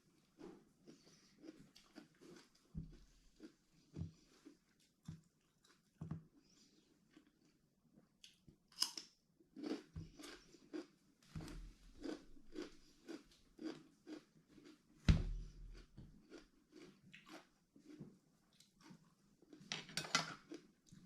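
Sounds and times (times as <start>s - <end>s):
person chewing crunchy food: 0.1s - 7.6s, 9.6s - 19.7s, 20.4s - 21.0s.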